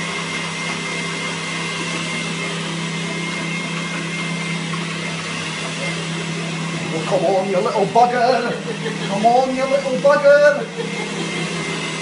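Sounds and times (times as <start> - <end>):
blender motor running: 0.0 - 12.0.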